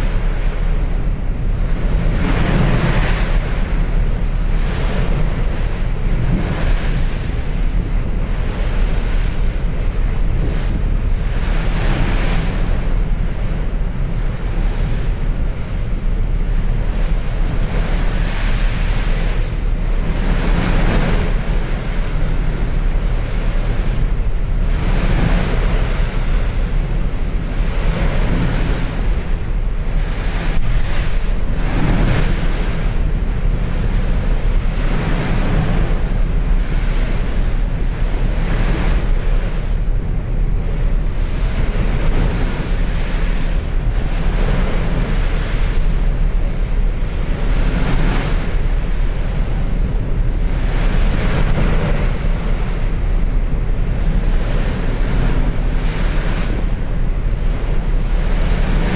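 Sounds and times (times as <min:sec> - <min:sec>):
sea water rushing: 0:00.0 - 0:58.9
wind buffeting microphone: 0:00.0 - 0:58.9.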